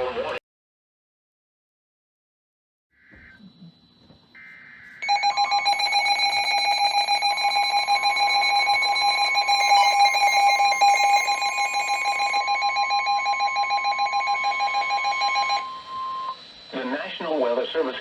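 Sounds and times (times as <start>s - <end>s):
pulsing alarm tone: 3.0s - 18.0s.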